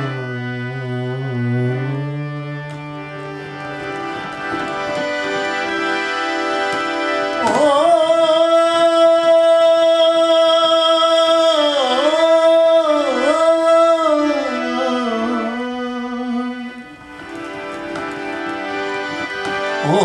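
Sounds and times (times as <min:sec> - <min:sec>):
harmonium: 0:00.0 - 0:20.0.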